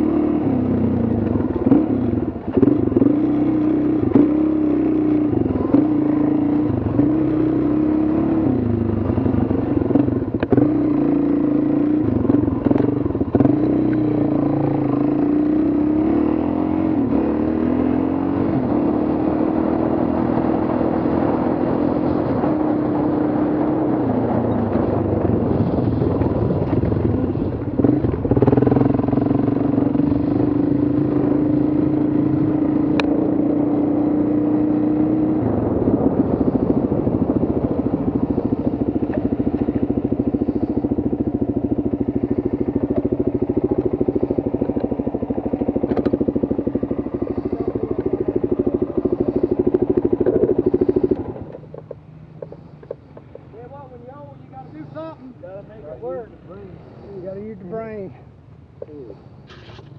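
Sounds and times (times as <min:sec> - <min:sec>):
dirt bike engine running: 0:00.0 - 0:21.4, 0:22.1 - 0:56.2.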